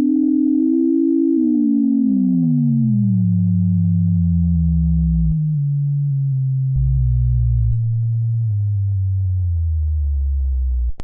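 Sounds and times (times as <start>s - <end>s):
deep electronic tone: 0.0s - 11.0s
electronic hum stepping down in pitch: 0.0s - 11.0s.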